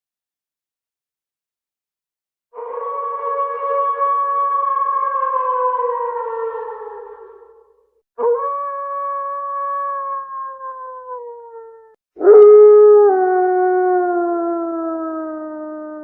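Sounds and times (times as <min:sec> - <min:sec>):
wolf howling: 0:02.6 - 0:07.6, 0:08.2 - 0:16.0.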